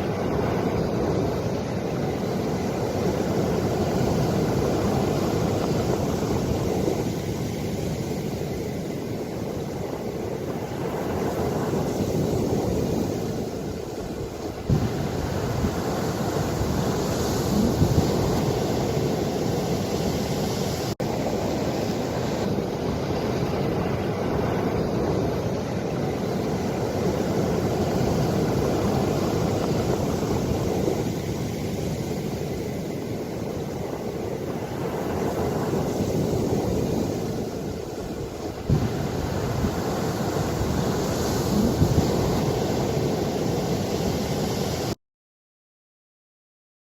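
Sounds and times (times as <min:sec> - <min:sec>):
ocean waves washing: 0:00.0 - 0:45.0
wind buffeting microphone: 0:00.0 - 0:45.0.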